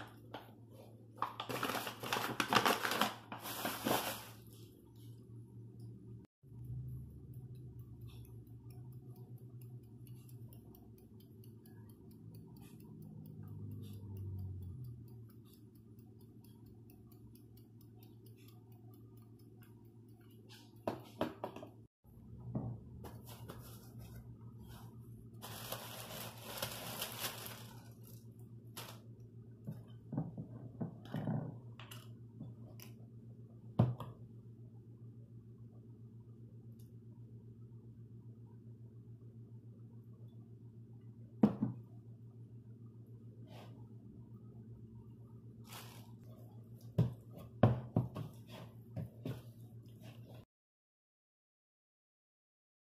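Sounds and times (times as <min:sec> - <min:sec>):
steady low hum: 0:03.5 - 0:50.4.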